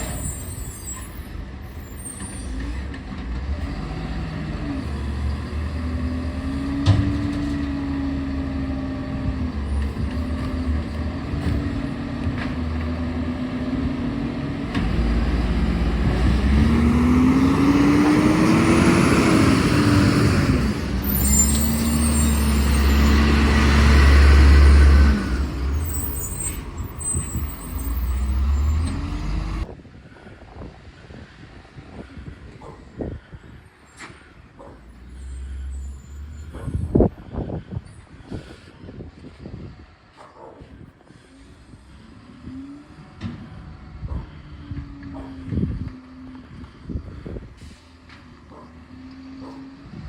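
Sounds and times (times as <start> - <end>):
garbage truck diesel engine: 0.0 - 29.8, 30.6 - 50.0.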